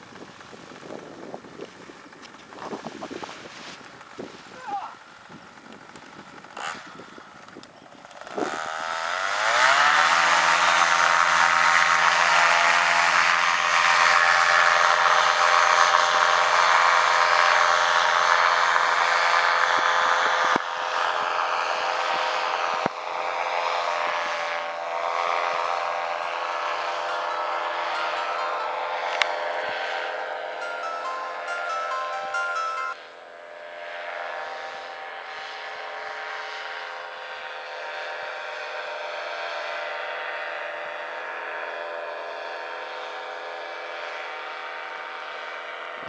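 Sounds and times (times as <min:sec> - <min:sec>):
paramotor engine and propeller: 0:00.0 - 0:31.6, 0:33.0 - 0:46.0.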